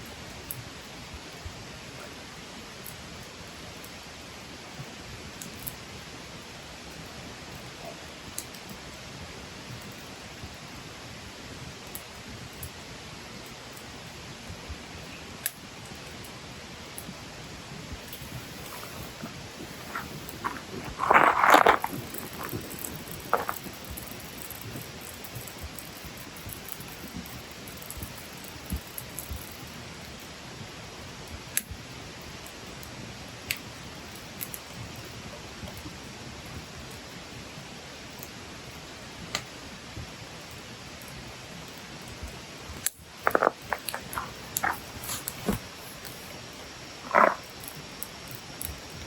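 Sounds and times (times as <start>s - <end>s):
campfire hissing and crackling: 0.0s - 49.0s.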